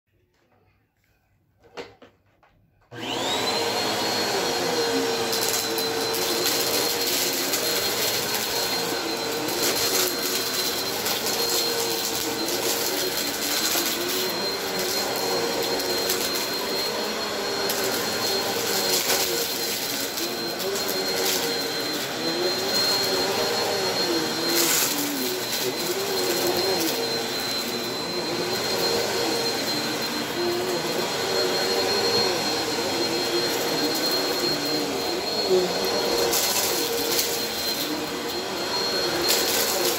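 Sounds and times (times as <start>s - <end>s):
vacuum cleaner whining: 2.8s - 39.9s.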